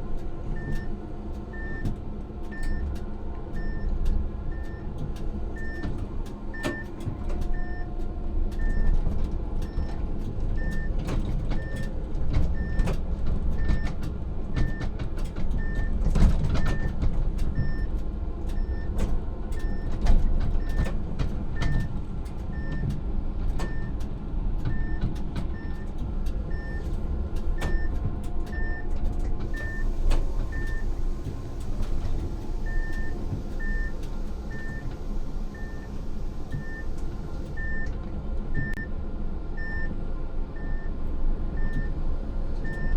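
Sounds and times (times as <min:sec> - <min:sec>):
tram rumbling: 0:00.0 - 0:42.9.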